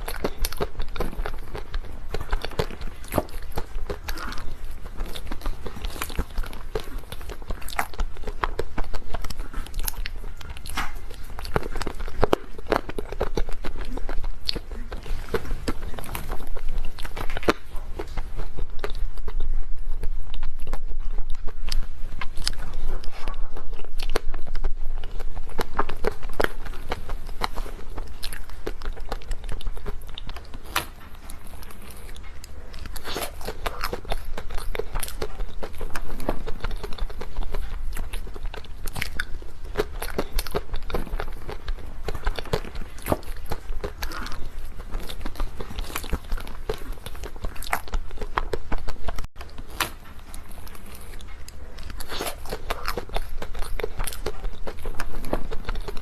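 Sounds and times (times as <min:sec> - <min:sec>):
person biting and chewing crunchily: 0:00.0 - 0:56.0.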